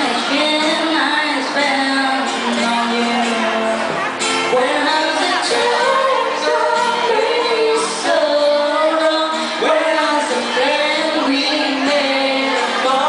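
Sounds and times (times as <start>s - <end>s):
woman singing: 0.0s - 3.8s, 4.5s - 13.0s
live pop band playing: 0.0s - 13.0s.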